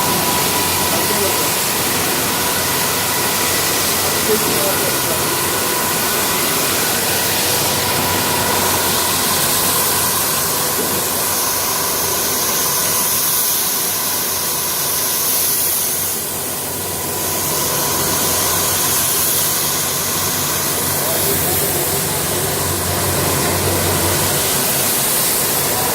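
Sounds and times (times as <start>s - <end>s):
carpet-washing machine humming: 0.0s - 13.2s, 16.0s - 25.9s.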